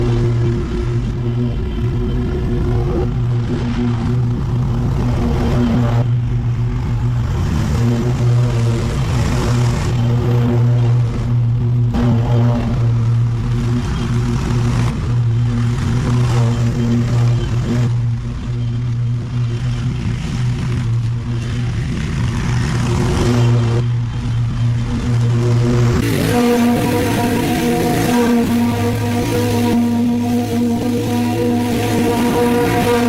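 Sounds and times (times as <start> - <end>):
small petrol engine running: 0.0 - 33.0.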